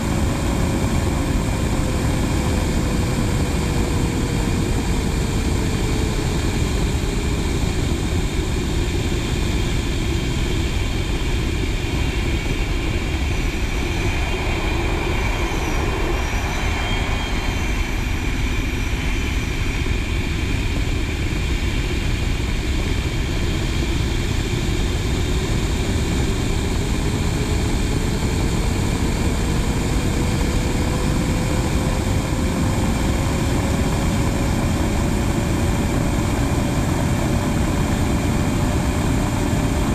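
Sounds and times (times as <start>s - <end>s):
jet airstream and engine noise: 0.0s - 39.9s.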